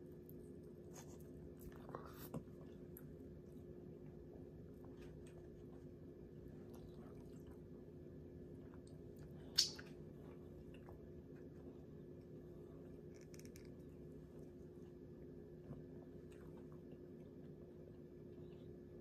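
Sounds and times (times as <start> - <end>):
steady low hum: 0.0 - 19.0
person chewing food: 0.1 - 18.7.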